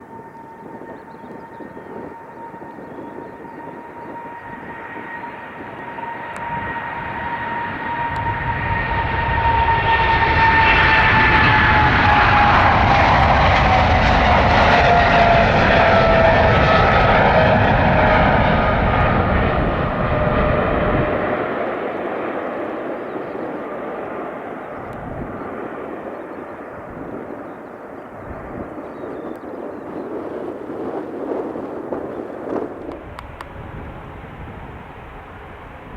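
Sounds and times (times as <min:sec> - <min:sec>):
jet engines roaring on takeoff: 0:00.0 - 0:35.9.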